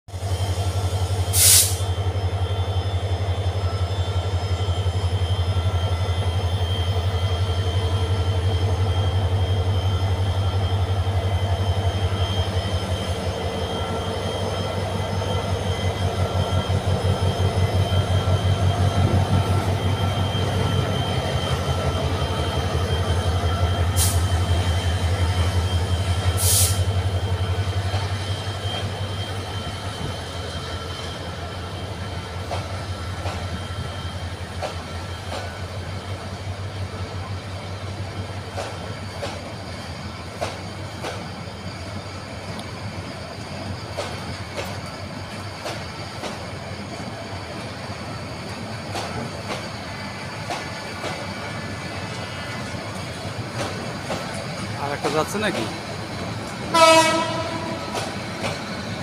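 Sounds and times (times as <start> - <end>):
train coaches rolling past: 0.1 - 59.0
locomotive engine drone: 0.3 - 59.0.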